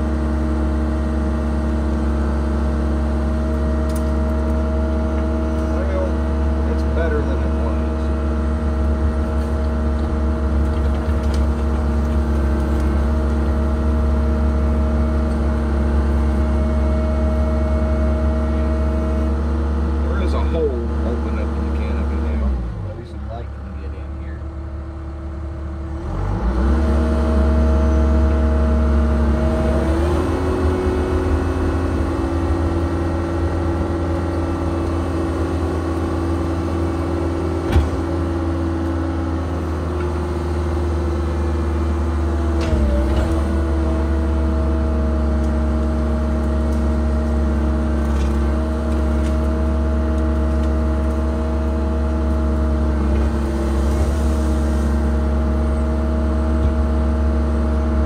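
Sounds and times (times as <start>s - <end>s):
excavator diesel engine and hydraulics: 0.0s - 58.0s.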